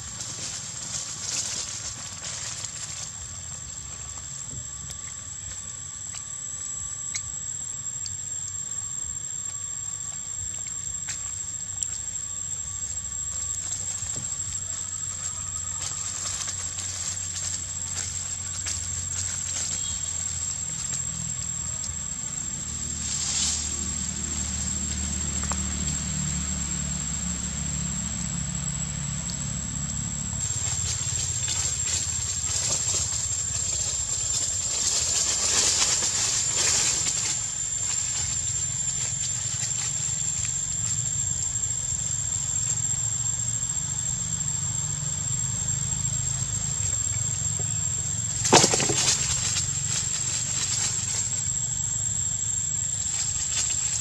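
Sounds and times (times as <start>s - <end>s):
rustles: 0.0s - 7.3s, 9.4s - 27.8s, 29.1s - 44.5s, 45.4s - 54.0s
high-pitched whine: 0.0s - 54.0s.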